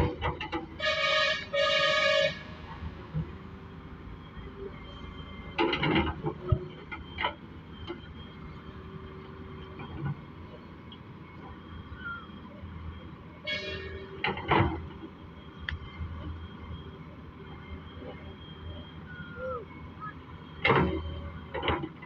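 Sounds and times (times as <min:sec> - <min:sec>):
heavy machinery engine running: 0:00.0 - 0:22.0.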